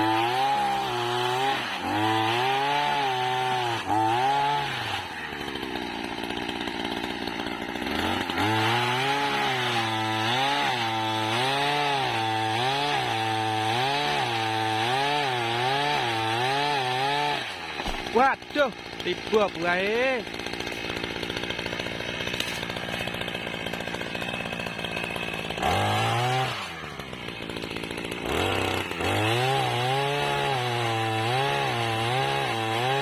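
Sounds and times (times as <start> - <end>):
small engine revving: 0.0 - 33.0.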